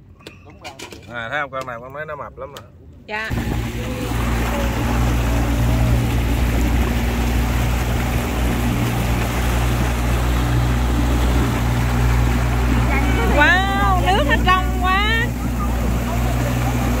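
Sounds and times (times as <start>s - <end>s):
motorboat engine humming: 3.3s - 17.0s
water churning in wake: 3.3s - 17.0s.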